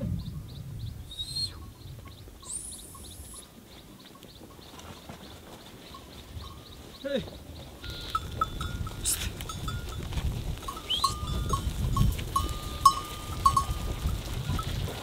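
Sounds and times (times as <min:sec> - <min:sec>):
low rumble of moving flock: 0:00.0 - 0:15.0
sheep bells clanking: 0:01.5 - 0:15.0.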